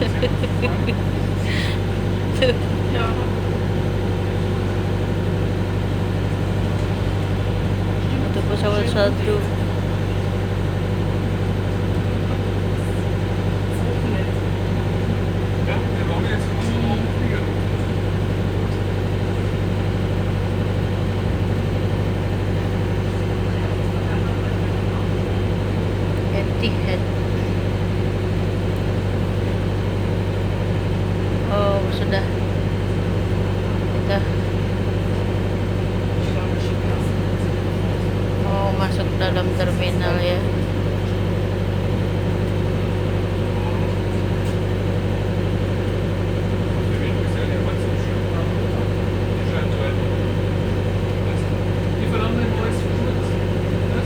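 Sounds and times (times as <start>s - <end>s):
bus engine humming: 0.0s - 54.0s
road noise: 0.0s - 54.0s.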